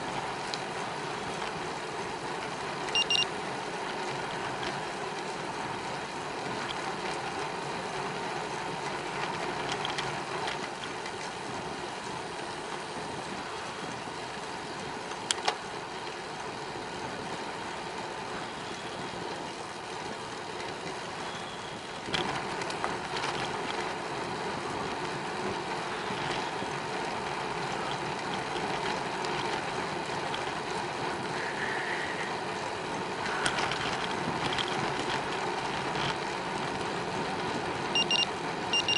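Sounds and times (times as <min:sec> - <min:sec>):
bicycle tyre hum: 0:00.0 - 0:38.9
bike clicking over bumps: 0:00.0 - 0:38.9.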